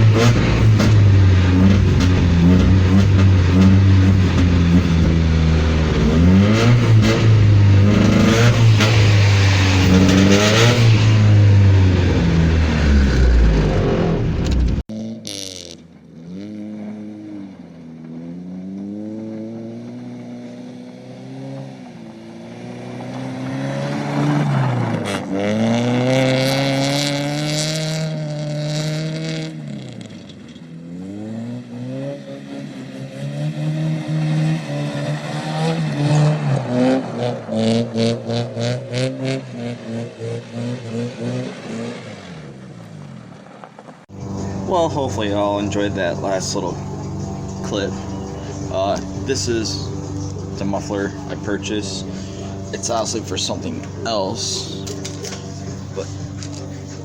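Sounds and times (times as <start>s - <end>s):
car exhaust revving: 0.0s - 57.0s.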